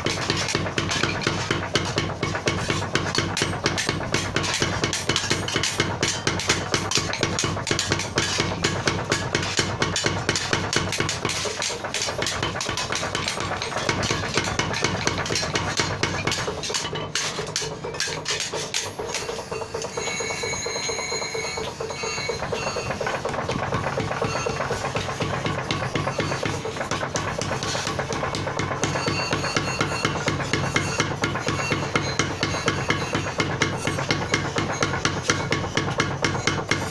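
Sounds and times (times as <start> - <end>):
power hammer striking steel: 0.0 - 36.9.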